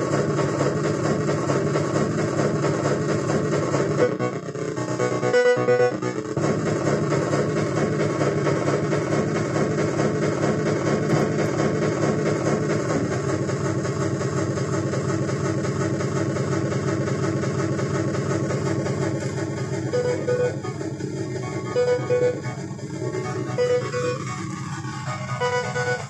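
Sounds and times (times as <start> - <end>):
droning synth with echoes: 0.0 - 26.0.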